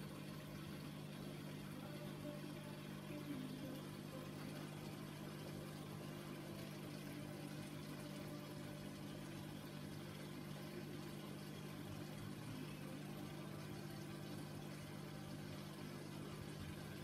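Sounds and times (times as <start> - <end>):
aquarium pump humming: 0.0 - 17.0.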